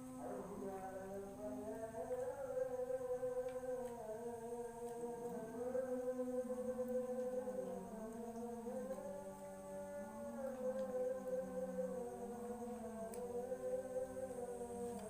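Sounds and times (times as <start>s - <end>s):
women chanting prayers in unison: 0.0s - 15.0s.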